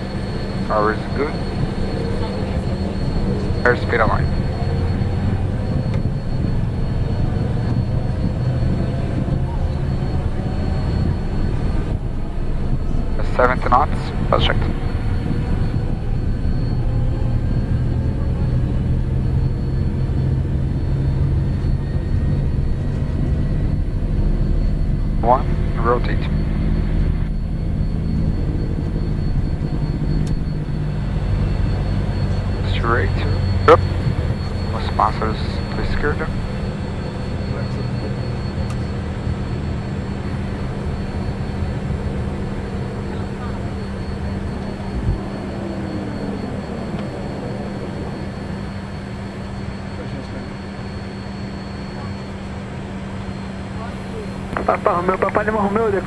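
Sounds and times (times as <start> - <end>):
faint high whine: 0.0 - 56.0
jet engine and runway rumble: 0.0 - 56.0.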